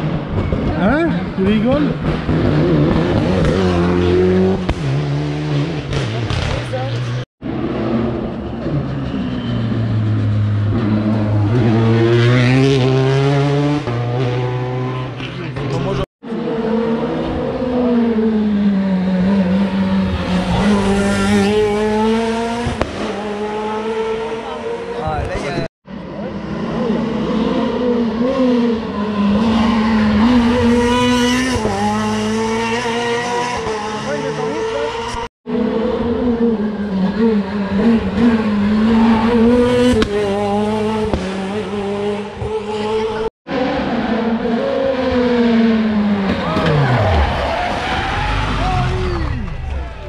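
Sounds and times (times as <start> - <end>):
rally car engine accelerating: 0.0 - 50.0.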